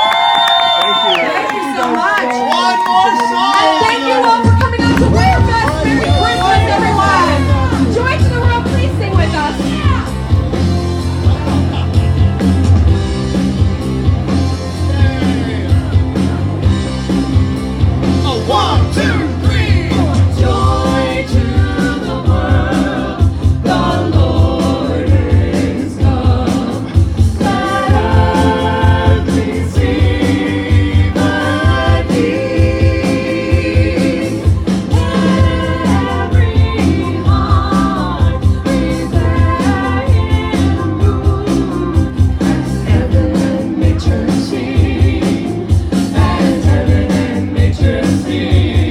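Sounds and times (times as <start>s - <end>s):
upbeat music with singing: 0.0s - 48.9s.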